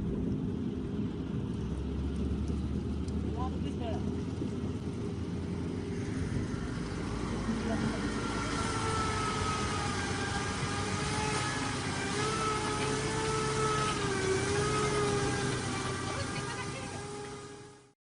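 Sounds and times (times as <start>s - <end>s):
vehicle engine running: 0.0s - 18.0s
wavering engine whine: 0.0s - 18.0s.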